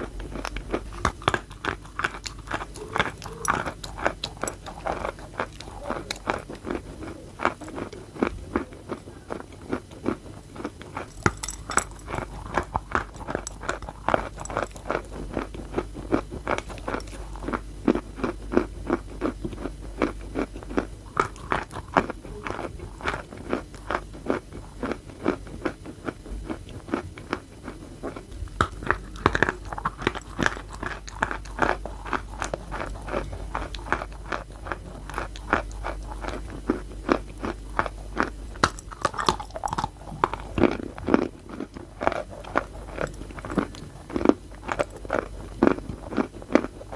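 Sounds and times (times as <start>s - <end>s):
chewing chalk gritty crunches: 0.0s - 46.9s.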